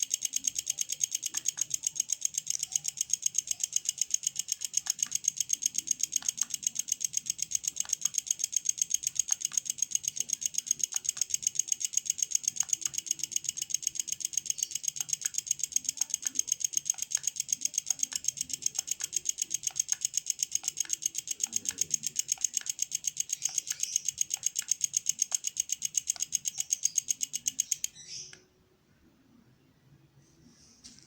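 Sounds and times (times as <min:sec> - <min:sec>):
welder rapid even pulsing: 0:00.0 - 0:28.4.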